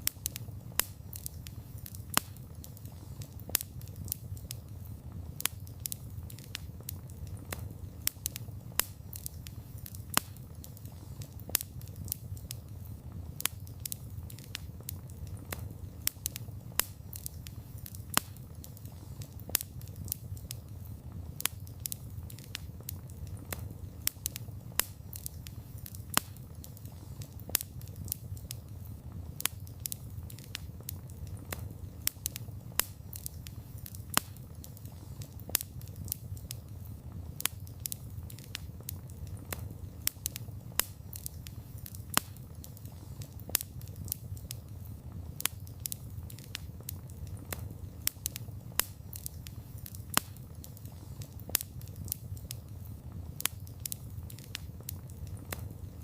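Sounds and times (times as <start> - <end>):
campfire popping and crackling: 0.0 - 56.0.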